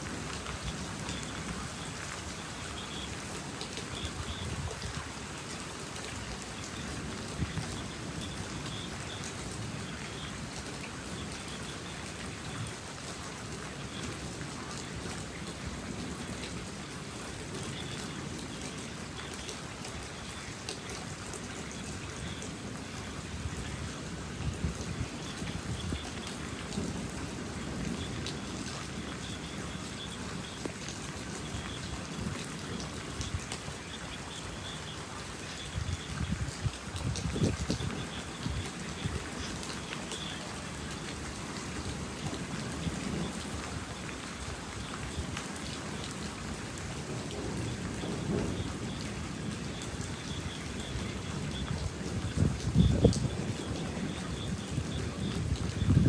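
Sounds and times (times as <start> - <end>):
rain falling: 0.0 - 56.0
raindrops ticking on a surface: 0.0 - 56.0.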